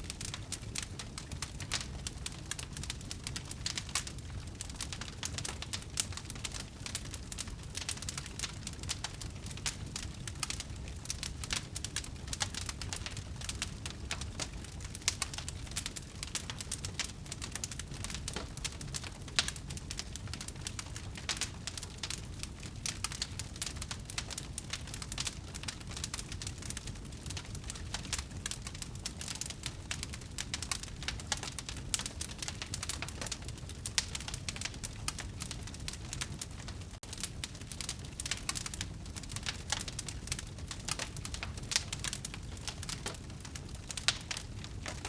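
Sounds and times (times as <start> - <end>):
low rumble of flames: 0.0 - 45.0
wood fire crackling and popping: 0.0 - 45.0.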